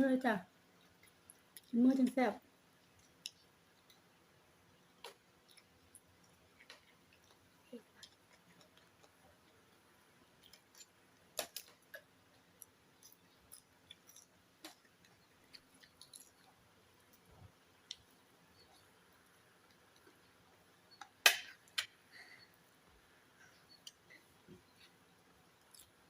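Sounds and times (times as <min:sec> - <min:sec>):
quiet chewing: 0:00.7 - 0:01.8, 0:02.7 - 0:26.0.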